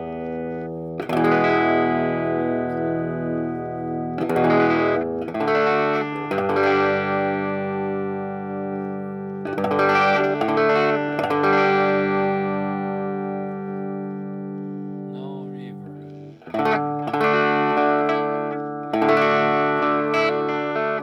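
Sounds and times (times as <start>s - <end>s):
overdriven electric guitar chords: 0.0s - 21.0s.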